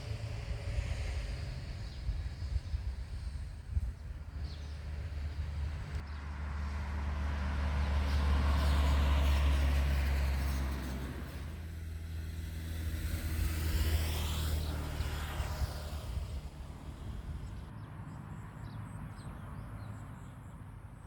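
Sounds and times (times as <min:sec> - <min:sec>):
vehicle passing: 0:00.0 - 0:20.3.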